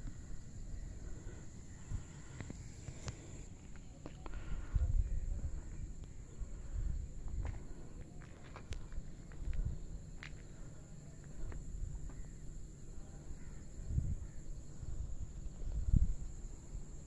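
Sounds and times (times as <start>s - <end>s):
wind rumbling on microphone: 0.0s - 10.6s, 11.2s - 17.0s
insects droning: 0.0s - 17.0s.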